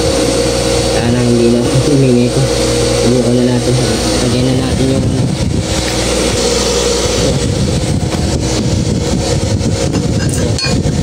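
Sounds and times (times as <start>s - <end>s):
sewing machine motor humming: 0.0s - 9.9s.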